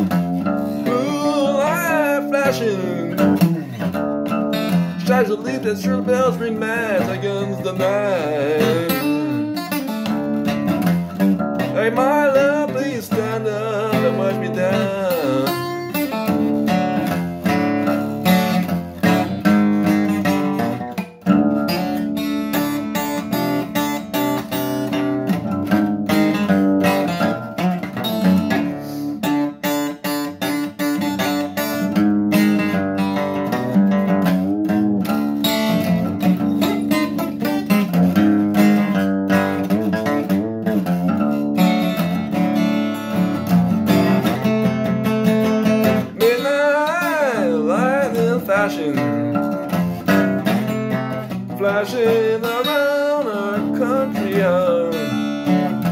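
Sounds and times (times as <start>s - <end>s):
acoustic guitar strumming: 0.0s - 55.9s.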